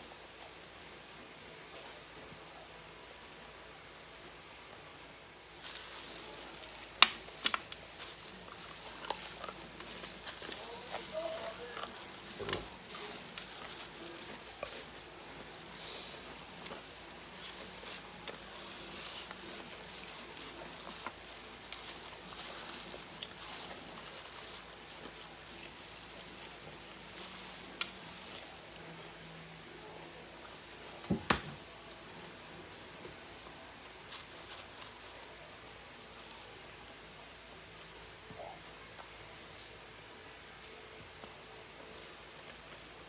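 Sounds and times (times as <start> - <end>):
crackly chewing: 5.4 - 31.1, 33.4 - 43.0.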